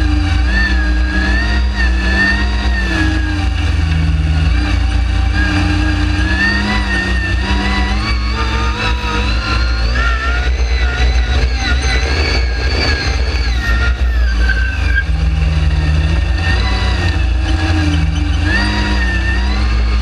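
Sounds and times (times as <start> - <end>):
dune buggy engine under load: 0.0 - 20.0.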